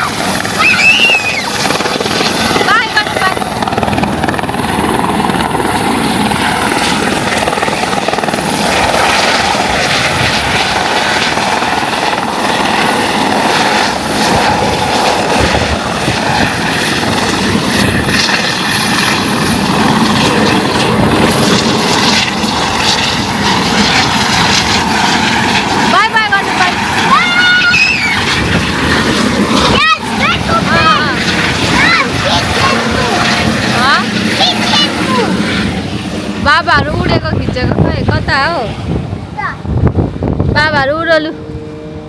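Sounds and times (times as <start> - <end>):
helicopter rotor noise: 0.0 - 42.0.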